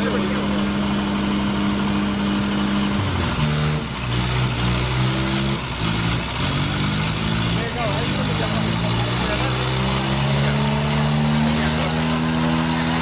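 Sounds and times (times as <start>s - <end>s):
tractor diesel engines running: 0.0s - 13.0s.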